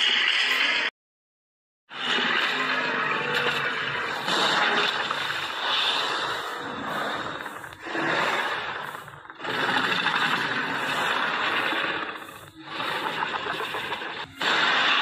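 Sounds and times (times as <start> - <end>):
dinosaur roars: 1.9 - 15.0.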